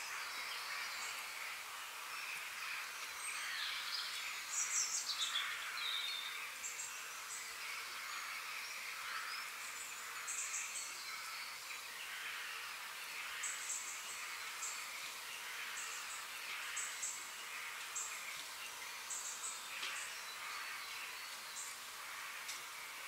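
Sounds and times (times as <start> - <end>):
small birds chirping: 0.0 - 23.0
steady woodland hiss: 0.0 - 23.0.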